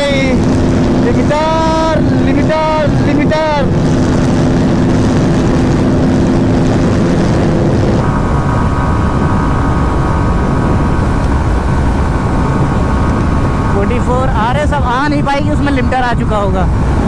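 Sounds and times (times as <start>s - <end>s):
loud wind rush: 0.0s - 17.0s
motorcycle engine at full throttle: 0.0s - 17.0s.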